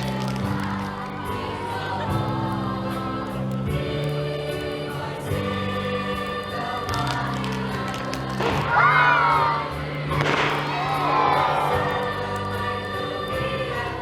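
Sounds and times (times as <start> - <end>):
choral singing: 0.0 - 14.0.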